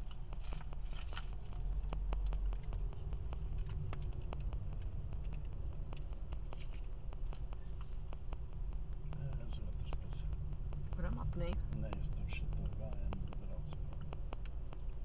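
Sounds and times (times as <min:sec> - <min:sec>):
engine and tyre rumble: 0:00.0 - 0:15.0
sharp clicks: 0:00.0 - 0:15.0.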